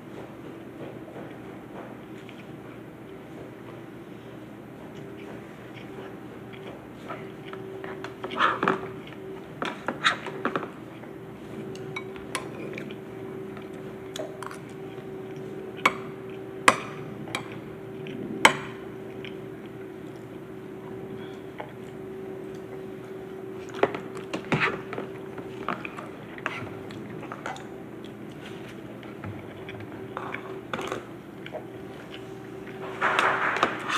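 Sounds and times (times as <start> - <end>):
steady hum: 0.0 - 33.9.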